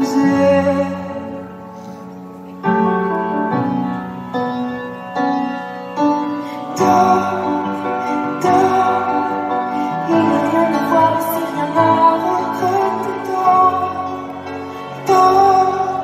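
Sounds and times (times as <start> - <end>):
piano playing slow chords: 0.0 - 16.0.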